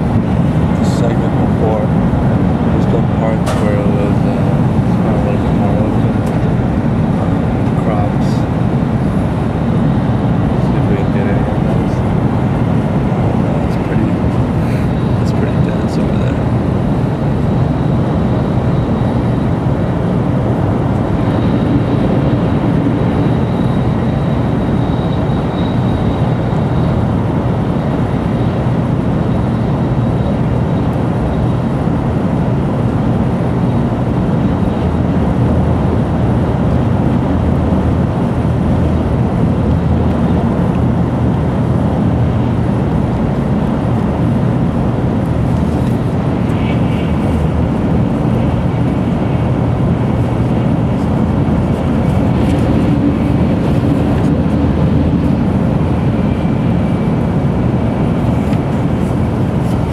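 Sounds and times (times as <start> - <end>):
train running noise from inside: 0.0 - 59.9.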